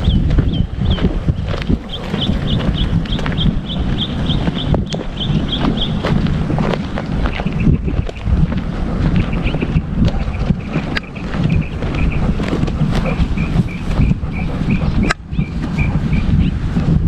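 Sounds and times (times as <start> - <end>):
wind buffeting microphone: 0.0 - 17.0
bumps of dog moving: 0.3 - 16.0.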